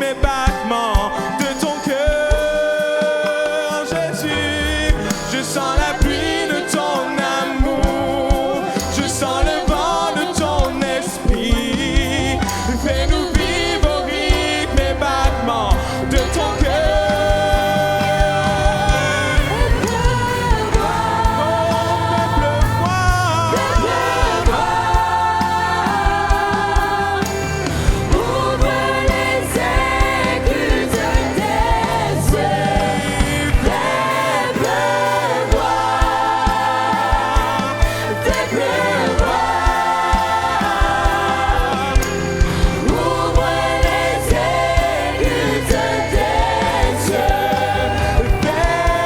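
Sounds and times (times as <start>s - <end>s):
choir singing gospel song: 0.0s - 49.0s
steady drum beat: 0.0s - 49.0s.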